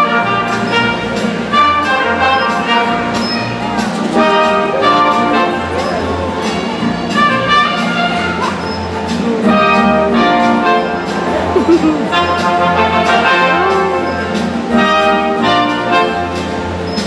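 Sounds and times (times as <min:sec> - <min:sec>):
orchestral music with brass: 0:00.0 - 0:17.0.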